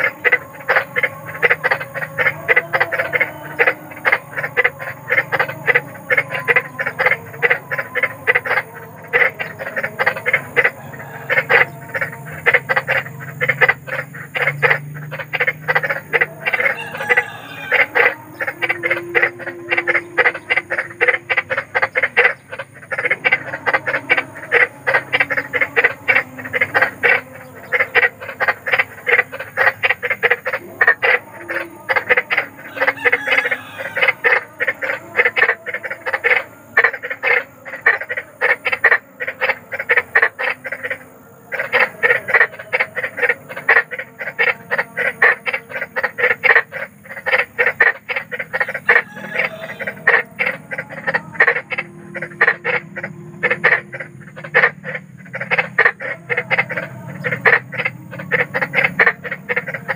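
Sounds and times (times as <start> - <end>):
frogs croaking: 0.0 - 59.9.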